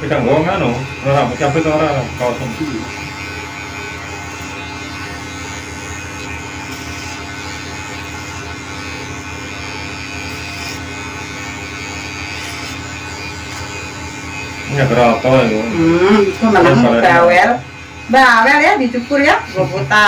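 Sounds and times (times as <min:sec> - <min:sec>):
electric hair clipper buzzing: 0:00.0 - 0:20.0.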